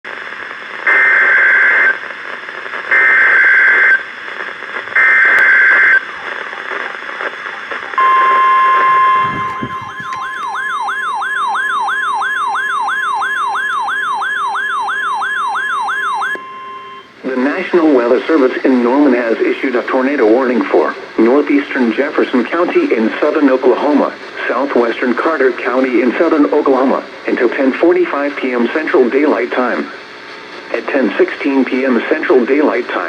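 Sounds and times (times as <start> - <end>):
faint radio hiss: 0.1 - 10.4, 16.5 - 33.0.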